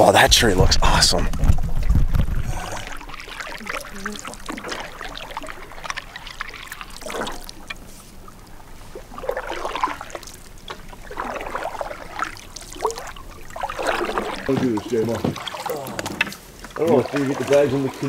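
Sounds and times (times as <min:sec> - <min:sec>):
paddle splashes: 0:00.2 - 0:18.0
water trickling off paddle: 0:00.3 - 0:18.0.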